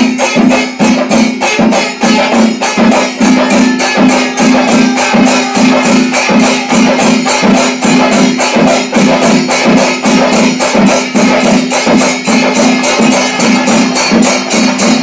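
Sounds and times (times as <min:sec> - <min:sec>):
percussion music with cymbals: 0:00.0 - 0:15.0.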